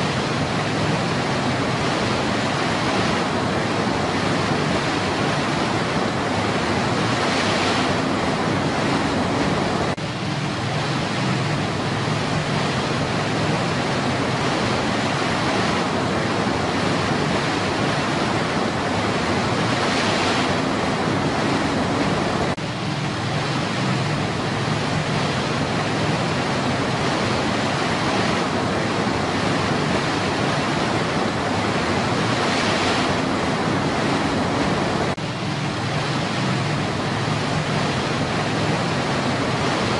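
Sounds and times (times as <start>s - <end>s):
white water rushing over rocks: 0.0s - 39.9s.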